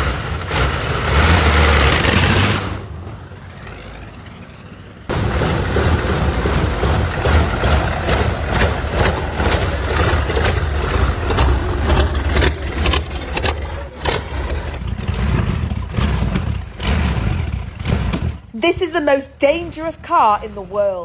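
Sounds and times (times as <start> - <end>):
car engine running loudly: 0.0 - 21.0
exhaust crackles and pops: 0.0 - 21.0.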